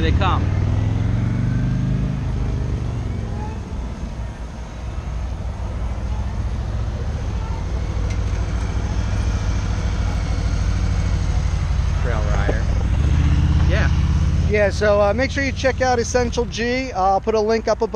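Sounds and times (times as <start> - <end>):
motorcycles riding past: 0.0 - 16.3.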